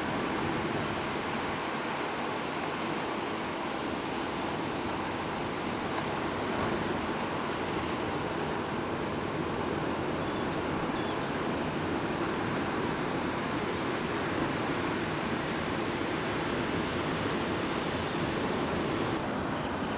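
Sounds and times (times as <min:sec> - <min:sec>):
ocean waves crashing: 0:00.0 - 0:19.8.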